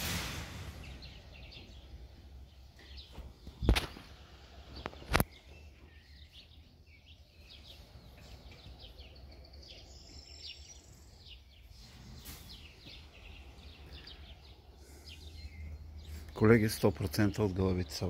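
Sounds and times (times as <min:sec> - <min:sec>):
small birds chirping: 0:00.7 - 0:18.0.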